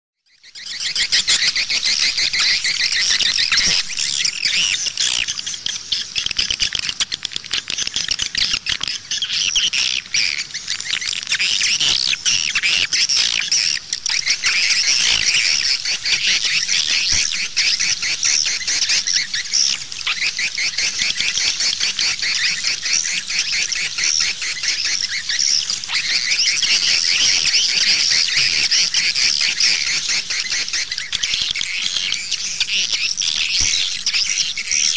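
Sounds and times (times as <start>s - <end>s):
swiftlets chirping and twittering: 0.3s - 34.9s.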